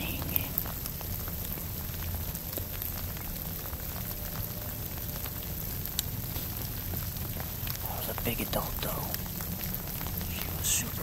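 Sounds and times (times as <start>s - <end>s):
low rumble: 0.0s - 11.0s
rain pattering: 0.0s - 11.0s.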